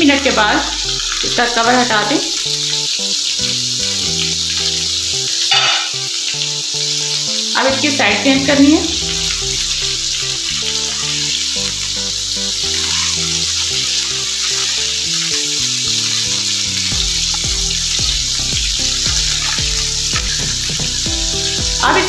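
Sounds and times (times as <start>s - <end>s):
fish sizzling in oil: 0.0s - 22.0s.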